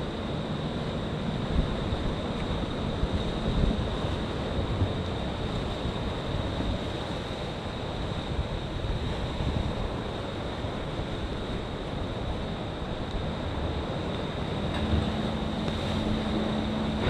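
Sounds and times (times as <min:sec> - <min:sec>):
sea waves washing ashore: 0:00.0 - 0:17.0
wind buffeting microphone: 0:01.0 - 0:17.0.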